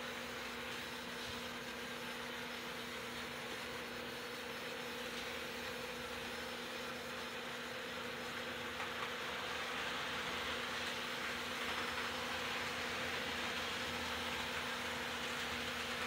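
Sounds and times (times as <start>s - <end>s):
model trains whirring and rattling: 0.0s - 16.0s.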